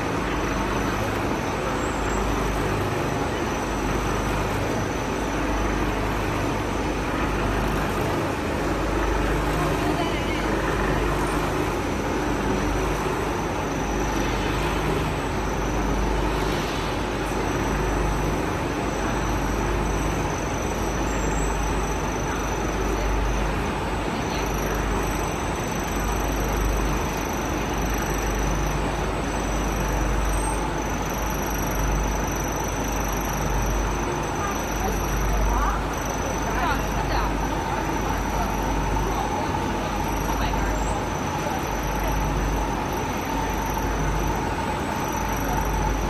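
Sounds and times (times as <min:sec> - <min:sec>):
machinery rumble: 0:00.0 - 0:46.0.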